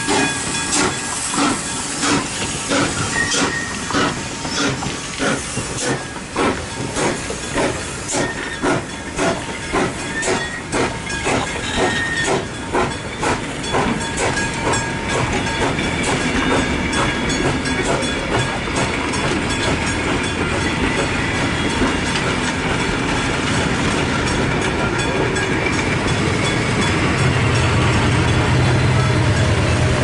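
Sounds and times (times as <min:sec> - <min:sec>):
train wheels clattering over rail joints: 0:00.0 - 0:28.8.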